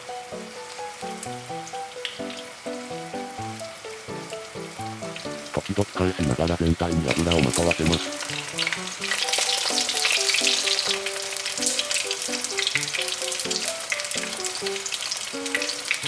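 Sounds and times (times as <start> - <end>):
eggplant frying in oil: 0.0 - 16.0
light background music: 0.0 - 16.0.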